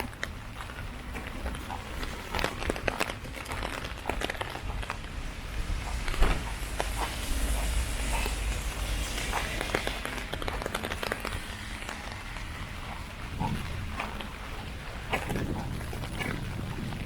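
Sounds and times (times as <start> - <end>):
heavy rain on an umbrella: 0.0 - 17.0.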